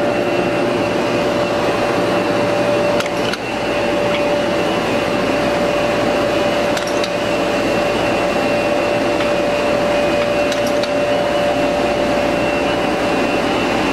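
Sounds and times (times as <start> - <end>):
machine drone with whine: 0.0 - 13.9.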